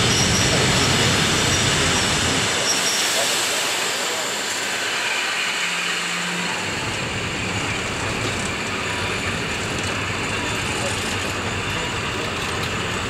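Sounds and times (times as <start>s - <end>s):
train wheels on rails hissing: 0.0s - 13.0s.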